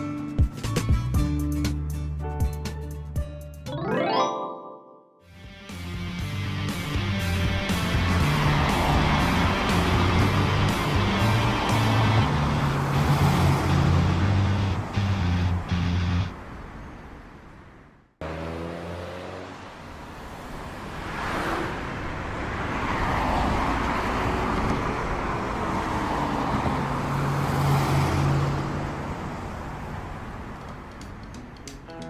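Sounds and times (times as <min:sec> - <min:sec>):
road traffic passing: 0:05.4 - 0:32.0.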